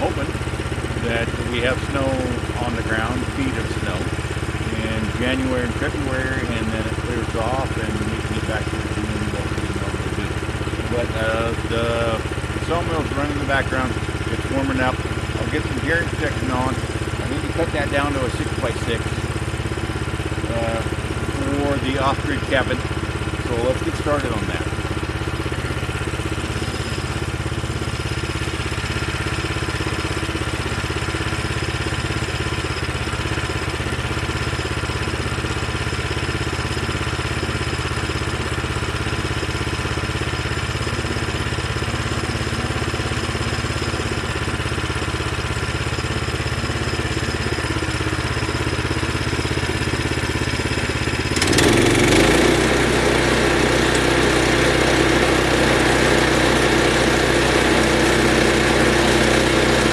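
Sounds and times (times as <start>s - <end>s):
sawmill engine idling: 0.0s - 59.9s.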